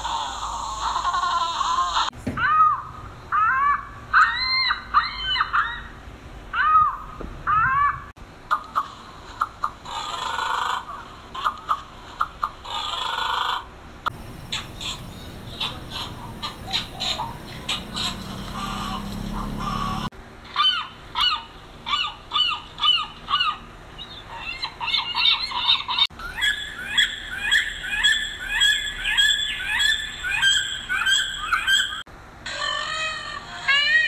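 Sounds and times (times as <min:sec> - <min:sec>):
birds calling: 0:00.0 - 0:33.5.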